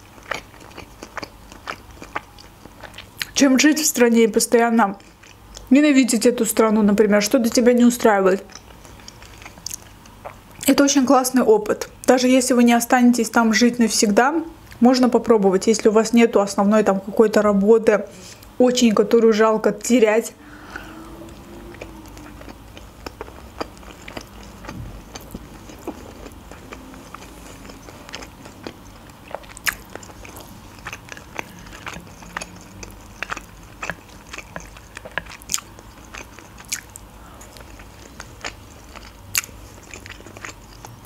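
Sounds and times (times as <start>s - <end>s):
chewing sticky food: 0.0s - 12.6s, 18.2s - 41.0s.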